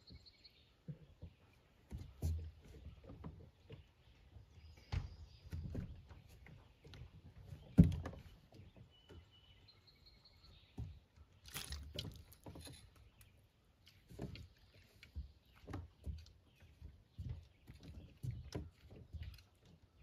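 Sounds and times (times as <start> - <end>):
knocks and bumps in boat: 0.8 - 9.6, 10.5 - 12.9, 14.0 - 19.8.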